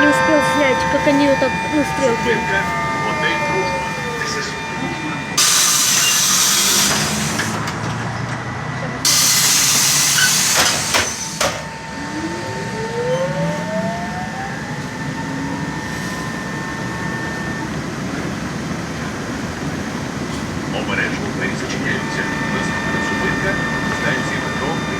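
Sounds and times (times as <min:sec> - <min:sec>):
electric drive whine rising: 0:00.0 - 0:07.8, 0:09.1 - 0:19.4, 0:21.4 - 0:24.9.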